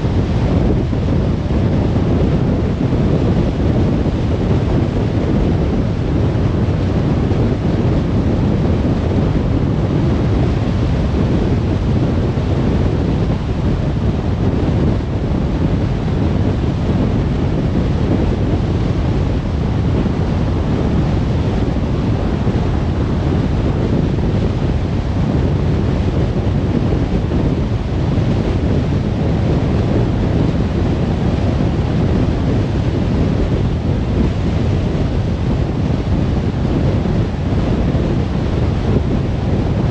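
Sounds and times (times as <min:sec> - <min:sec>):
wind rushing: 0:00.0 - 0:39.9.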